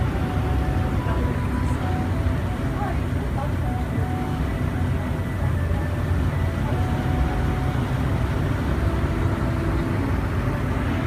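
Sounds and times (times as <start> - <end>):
faint whining tones: 0.0 - 11.0
tramway cabin rumble: 0.0 - 11.0.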